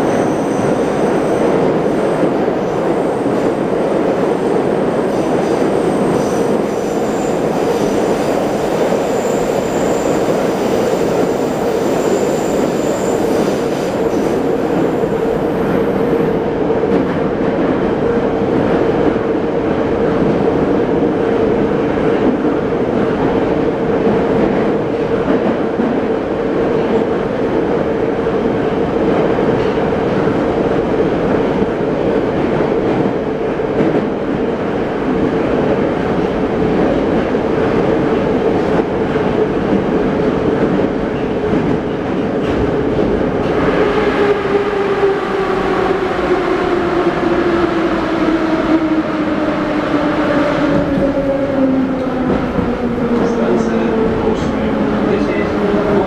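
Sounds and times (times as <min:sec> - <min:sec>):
subway car rumble and rush: 0:00.0 - 0:56.0.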